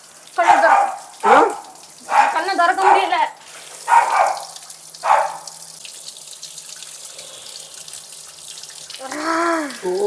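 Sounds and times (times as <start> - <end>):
tap water running into sink: 0.0 - 10.0
water splashing on face: 0.0 - 10.0.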